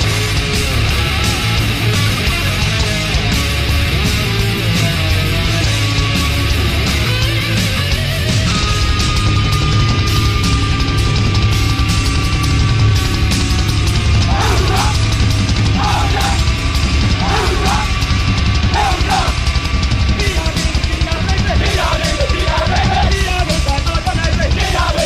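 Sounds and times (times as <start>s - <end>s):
heavy metal music: 0.0s - 25.0s.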